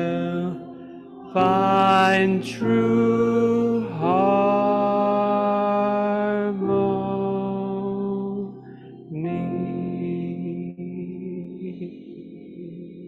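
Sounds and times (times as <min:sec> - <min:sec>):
unaccompanied hymn singing: 0:00.0 - 0:13.0.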